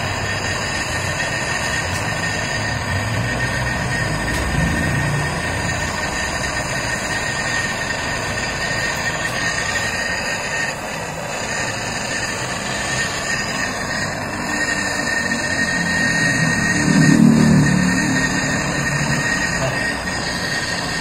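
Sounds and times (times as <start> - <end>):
gas torch rushing: 0.0 - 21.0
thin steady whistle: 0.0 - 21.0.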